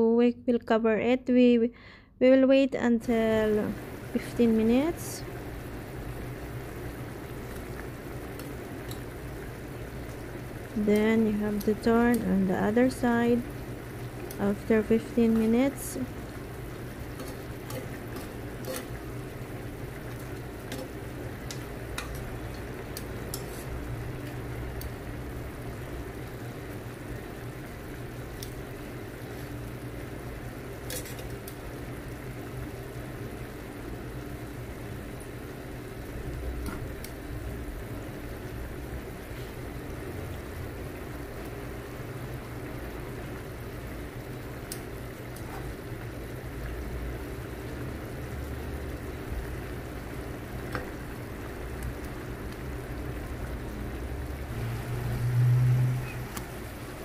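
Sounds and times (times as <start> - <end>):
sauce bubbling and popping: 5.2 - 57.0.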